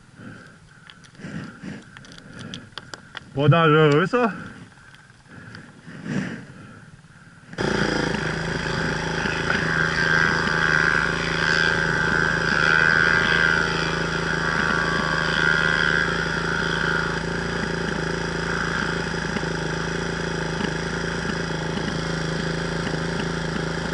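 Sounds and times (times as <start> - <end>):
dirt bike engine idling: 0.0 - 23.9.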